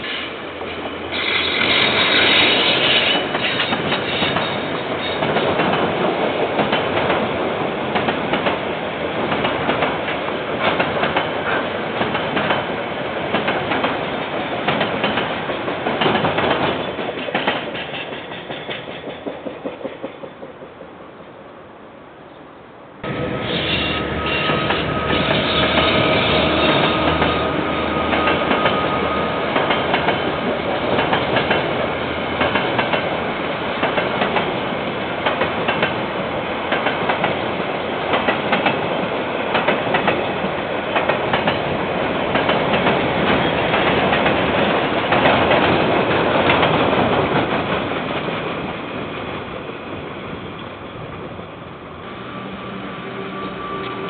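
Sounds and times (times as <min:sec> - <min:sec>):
freight train rumbling: 0:00.0 - 0:22.0, 0:22.9 - 0:54.0.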